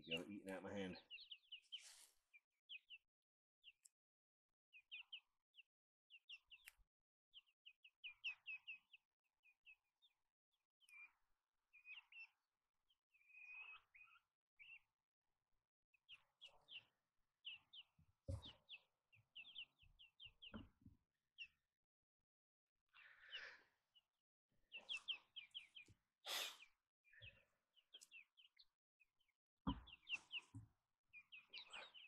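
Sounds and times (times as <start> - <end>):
young hens peeping: 0.0 - 3.9, 4.7 - 10.2, 10.8 - 12.4, 13.1 - 14.9, 16.0 - 21.6, 24.6 - 32.0.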